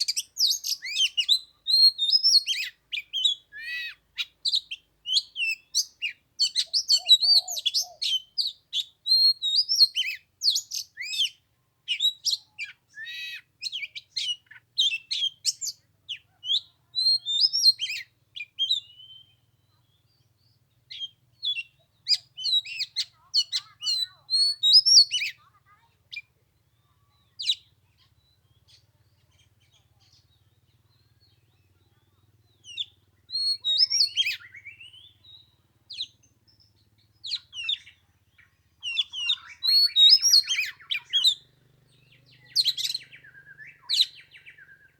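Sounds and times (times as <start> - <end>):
bird singing whistled notes: 0.0 - 25.4, 26.1 - 44.9.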